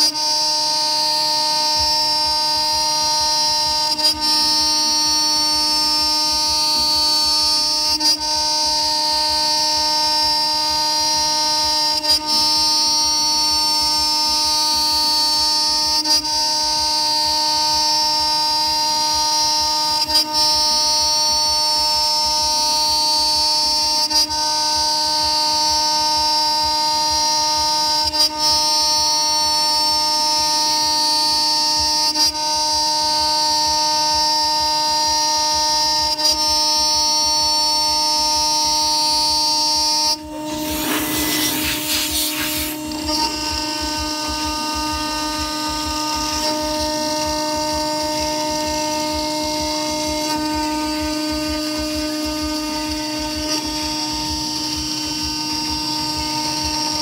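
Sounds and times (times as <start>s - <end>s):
router spindle whine milling metal: 0.0s - 57.0s.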